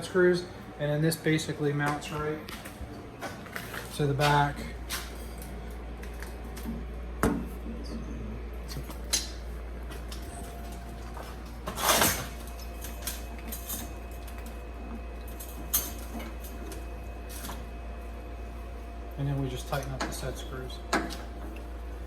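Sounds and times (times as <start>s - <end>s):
low shop hum: 0.0s - 22.0s.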